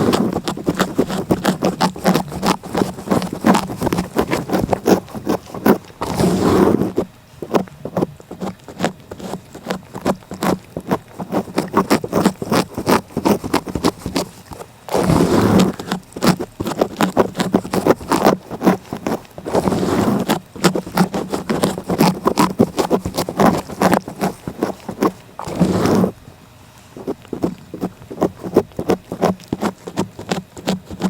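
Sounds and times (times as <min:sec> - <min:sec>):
cat licking: 0:00.0 - 0:31.0.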